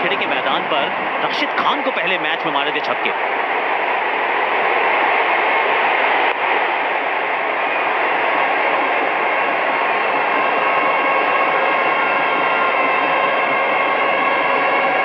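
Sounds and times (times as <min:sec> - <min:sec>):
stadium crowd cheering: 0:00.0 - 0:15.0.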